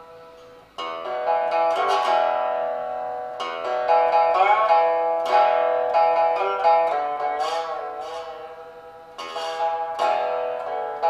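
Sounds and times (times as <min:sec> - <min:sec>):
resonator guitar sliding notes: 0:00.0 - 0:11.0.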